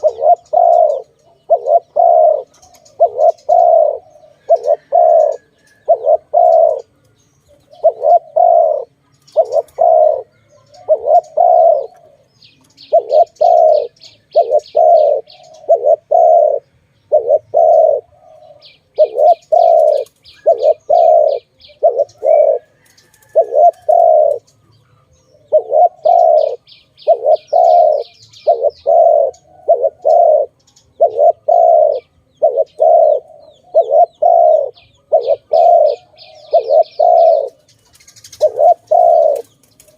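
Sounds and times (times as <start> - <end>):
dove cooing: 0.0 - 39.9
small bird chirping trill: 0.0 - 39.9.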